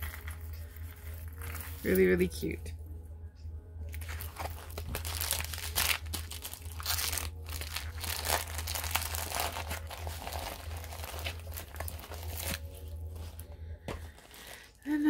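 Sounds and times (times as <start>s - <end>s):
plastic and paper crinkling: 0.0s - 2.5s, 3.9s - 14.8s
steady low hum: 0.0s - 15.0s.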